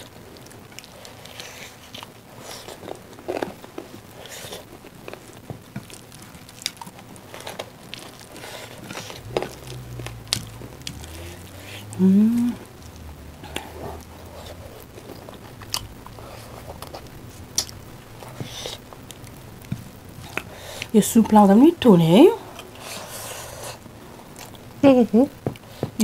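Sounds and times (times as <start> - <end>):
chewing: 0.4 - 21.0, 22.4 - 24.7.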